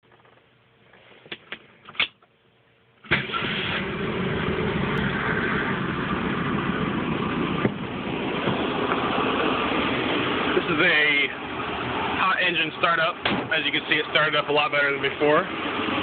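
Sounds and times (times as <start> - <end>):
car engine starting and running: 3.0 - 16.0.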